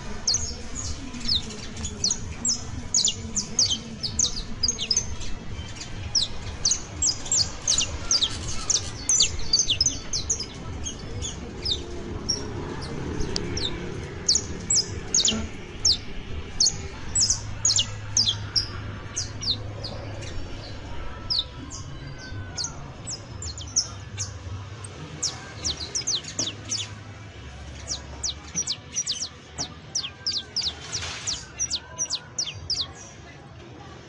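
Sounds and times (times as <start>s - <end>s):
finch singing high chips: 0.2s - 27.0s, 27.7s - 33.1s.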